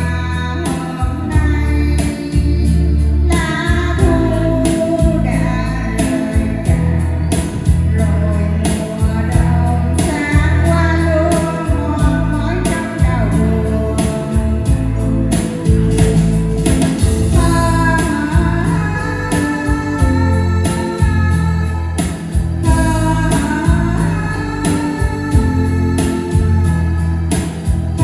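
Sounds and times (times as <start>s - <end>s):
instrumental backing music: 0.0s - 28.0s
woman singing: 0.0s - 28.0s.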